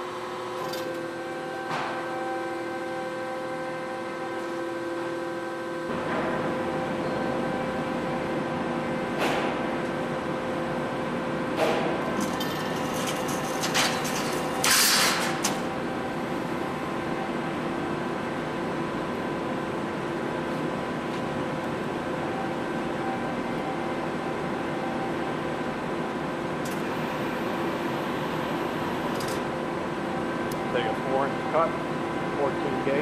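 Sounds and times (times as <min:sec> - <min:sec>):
hydraulic shear humming: 0:00.0 - 0:33.0.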